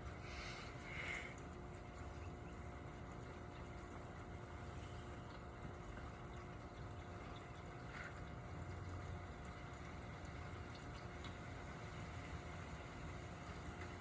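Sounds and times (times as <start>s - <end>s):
faint steady rain: 0.0s - 14.0s
small drips and ticks: 0.0s - 14.0s.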